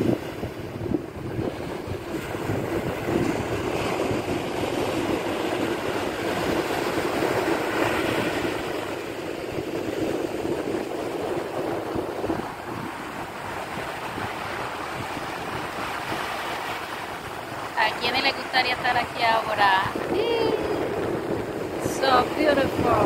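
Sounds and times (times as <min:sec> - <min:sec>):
ocean surf breaking on a beach: 0:00.0 - 0:23.0.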